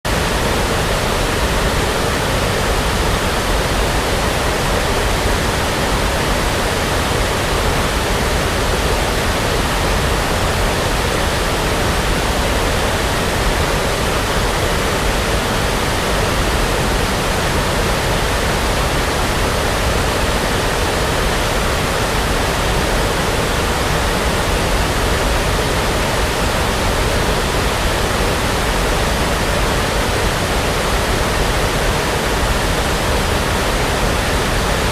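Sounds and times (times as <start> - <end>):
brown noise hiss: 0.1 - 34.9.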